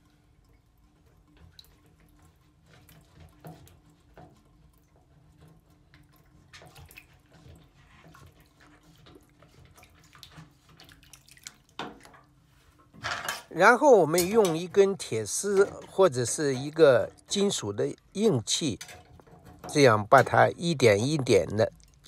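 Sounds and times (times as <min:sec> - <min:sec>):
bathwater splashing and sloshing: 0:00.0 - 0:22.0.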